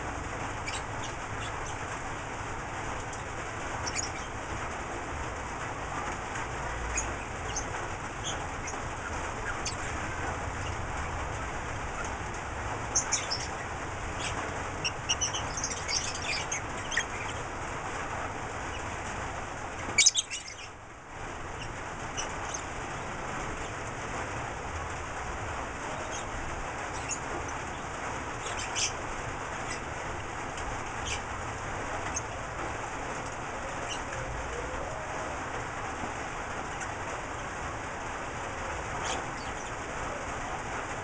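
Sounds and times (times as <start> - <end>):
steady background hiss: 0.0 - 41.0
lovebirds chirping: 0.4 - 2.1, 3.0 - 4.7, 6.1 - 23.9, 25.6 - 35.5, 38.6 - 40.6.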